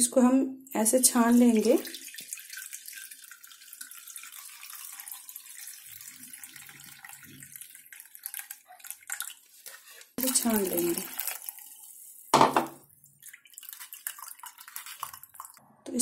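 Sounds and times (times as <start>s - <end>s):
liquid trickling through strainer: 0.6s - 15.6s.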